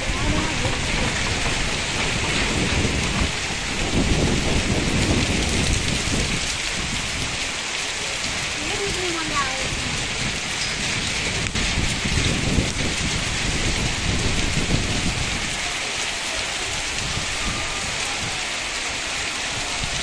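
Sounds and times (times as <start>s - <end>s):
hail and heavy rain falling: 0.0s - 20.0s.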